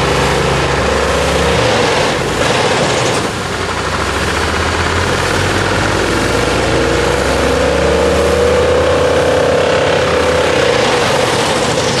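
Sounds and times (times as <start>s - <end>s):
wood chipper running: 0.0s - 12.0s.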